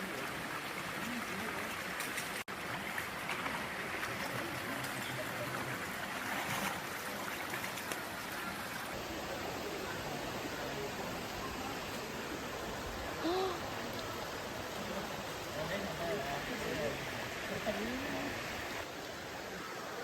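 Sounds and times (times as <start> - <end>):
flowing stream water: 0.0 - 20.0.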